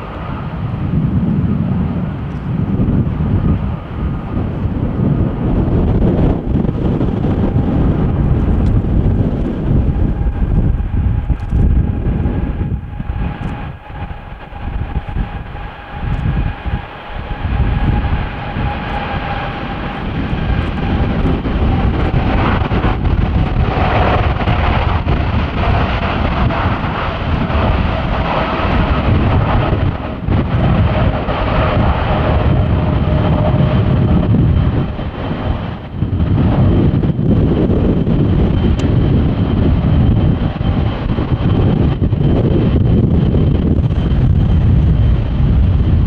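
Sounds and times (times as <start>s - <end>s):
jet engines rumbling and whining: 0.0s - 46.0s.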